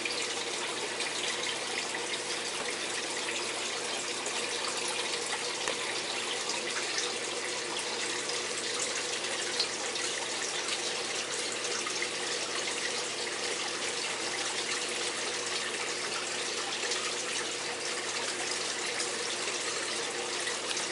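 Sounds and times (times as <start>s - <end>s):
faint steady hum: 0.0s - 20.9s
water rushing in a tank: 0.0s - 20.9s.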